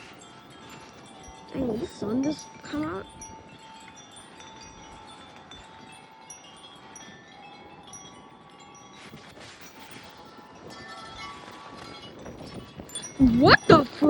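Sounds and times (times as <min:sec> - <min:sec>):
wind chimes tinkling: 0:00.0 - 0:14.0.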